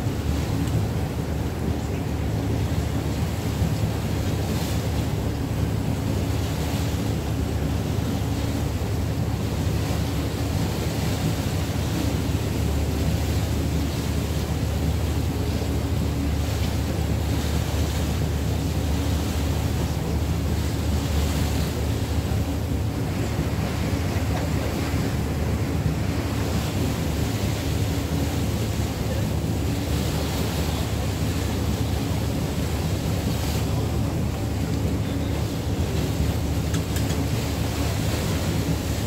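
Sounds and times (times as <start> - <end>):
steamer machinery humming: 0.0 - 39.0.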